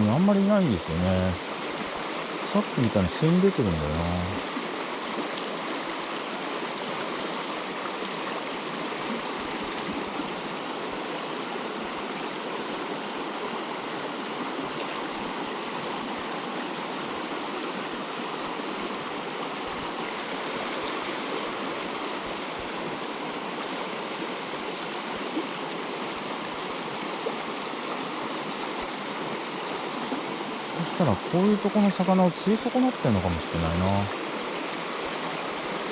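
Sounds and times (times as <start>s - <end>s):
mountain stream water rushing: 0.0s - 35.9s.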